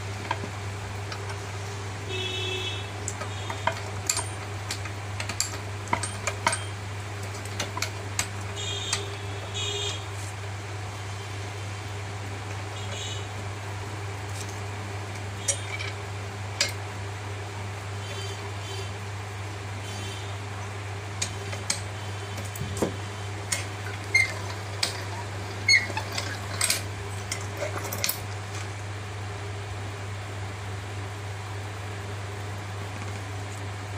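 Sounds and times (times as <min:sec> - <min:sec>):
capping machine humming: 0:00.0 - 0:33.9.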